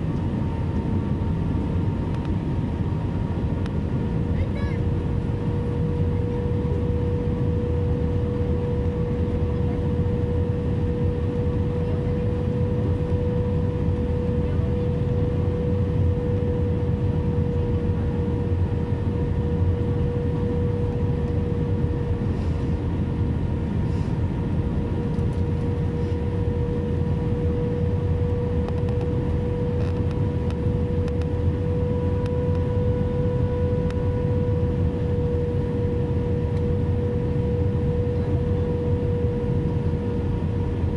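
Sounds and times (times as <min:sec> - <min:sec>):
airplane cabin rumble: 0:00.0 - 0:40.9
constant hum tone: 0:00.0 - 0:40.9.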